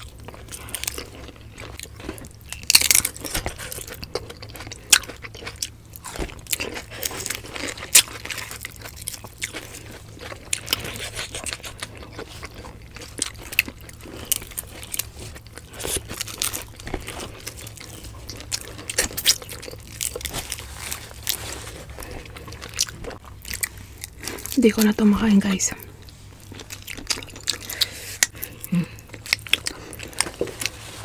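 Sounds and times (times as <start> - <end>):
close chewing and crunching: 0.0 - 31.0.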